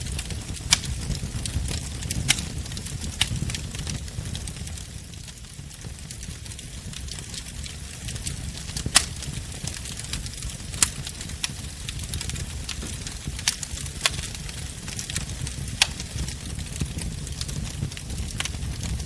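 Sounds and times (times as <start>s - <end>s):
fire crackling: 0.0s - 19.0s
rumble of flames: 0.0s - 19.0s
sharp fire pops: 0.0s - 19.0s.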